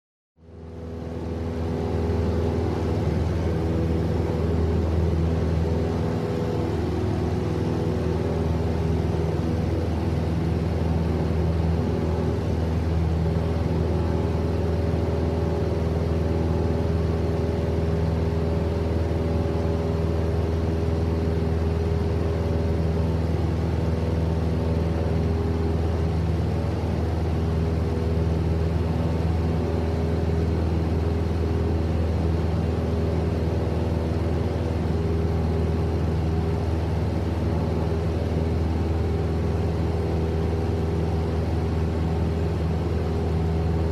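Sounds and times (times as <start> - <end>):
propeller plane engine drone: 0.4 - 43.9.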